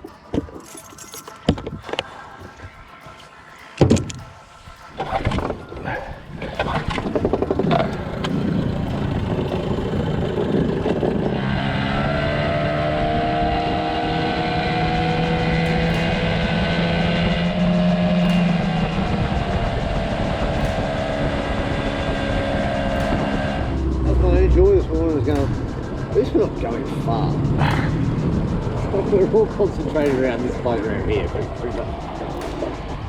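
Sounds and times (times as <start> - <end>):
outboard motor running: 0.0 - 33.0
water noise: 0.0 - 33.0
wind: 0.0 - 33.0.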